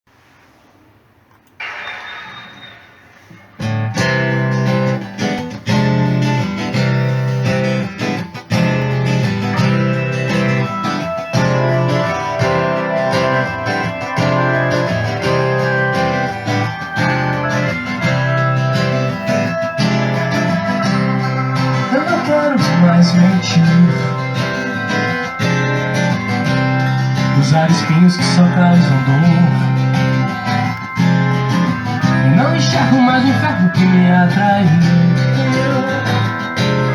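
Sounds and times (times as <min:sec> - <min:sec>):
song with strummed guitar and bass: 0:03.6 - 0:36.9.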